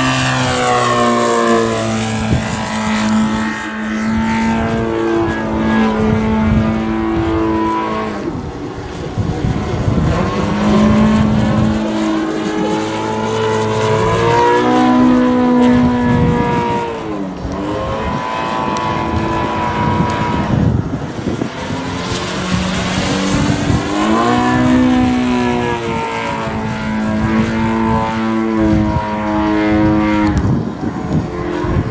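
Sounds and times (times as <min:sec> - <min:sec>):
model airplane engine revving: 0:00.0 - 0:31.9.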